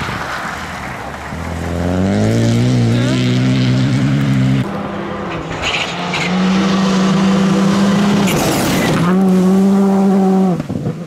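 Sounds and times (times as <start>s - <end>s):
gravel and tyre noise: 0.0s - 11.0s
rally car engine at high revs: 1.3s - 11.0s.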